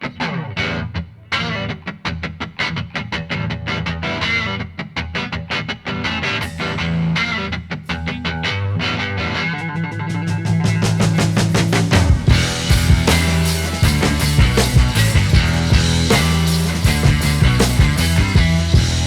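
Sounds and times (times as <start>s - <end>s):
guitar-led background music: 0.0s - 19.0s.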